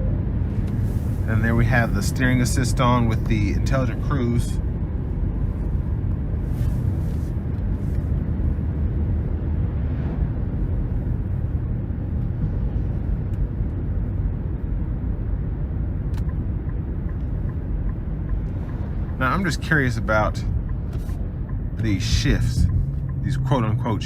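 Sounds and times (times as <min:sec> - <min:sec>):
car engine noise: 0:00.0 - 0:24.0
road and tyre rumble: 0:00.0 - 0:24.0.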